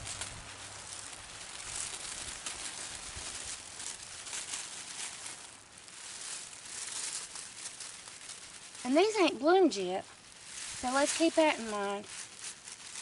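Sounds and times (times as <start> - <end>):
potting soil and foliage crackling: 0.0 - 13.0.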